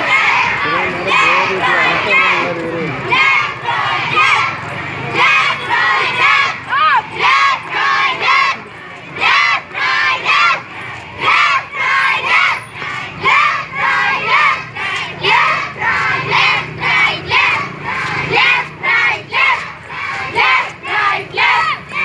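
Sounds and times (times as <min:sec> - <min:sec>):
children chanting in unison: 0:03.1 - 0:08.6, 0:09.2 - 0:22.0.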